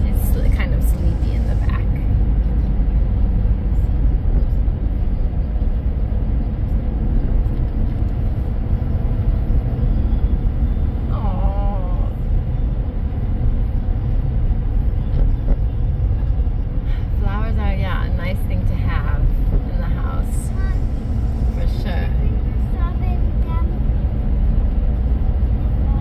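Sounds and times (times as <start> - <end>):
car tyre and engine rumble: 0.0 - 26.0.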